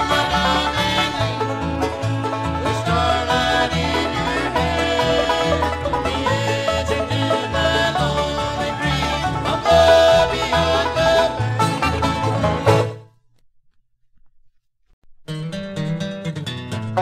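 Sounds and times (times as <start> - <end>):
banjo: 0.0 - 13.1, 15.3 - 17.0
guitar: 0.0 - 13.2, 15.0 - 17.0
bass: 0.0 - 17.0.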